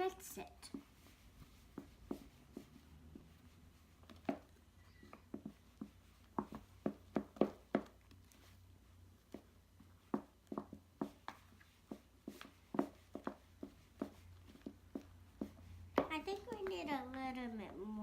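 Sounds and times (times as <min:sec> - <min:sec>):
slime squelching when stirred: 0:00.0 - 0:17.8.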